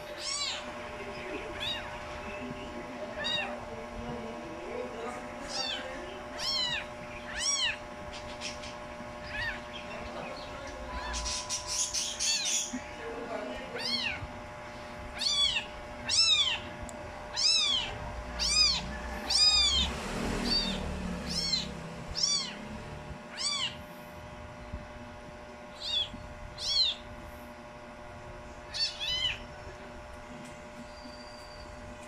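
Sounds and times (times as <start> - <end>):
kittens mewing: 0.0 - 4.0, 5.1 - 24.0, 25.7 - 27.2, 28.6 - 30.0.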